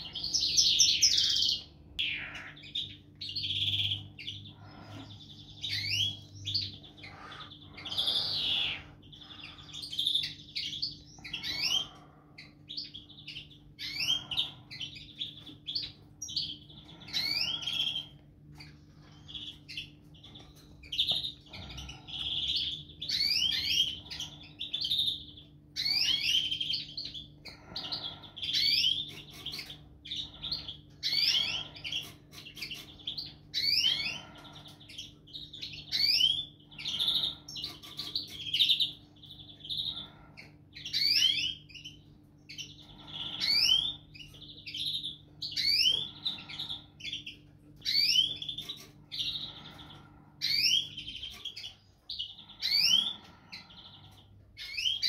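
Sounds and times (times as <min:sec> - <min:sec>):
finches singing: 0:00.0 - 0:55.0.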